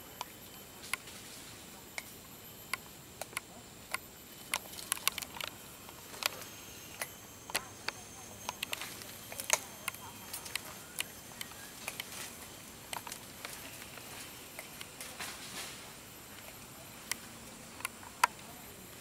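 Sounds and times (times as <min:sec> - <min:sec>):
sharp clicks and crackles: 0:01.9 - 0:18.5.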